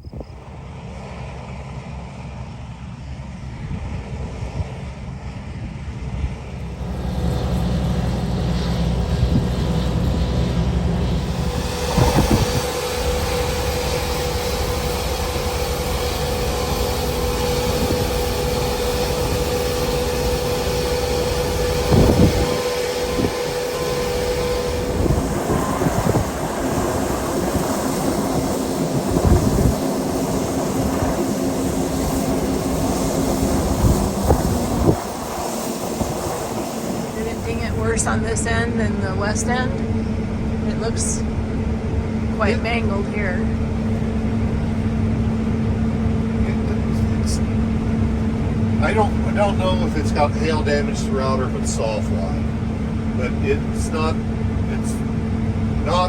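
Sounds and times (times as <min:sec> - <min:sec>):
steady whine: 0:00.0 - 0:56.0
large engine running: 0:06.3 - 0:56.0.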